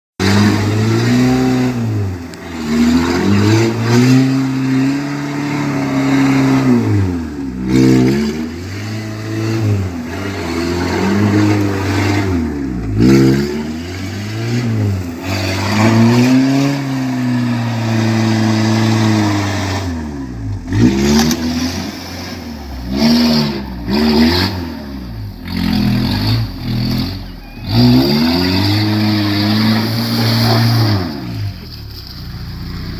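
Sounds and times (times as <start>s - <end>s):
diesel engine revving: 0.2s - 32.9s.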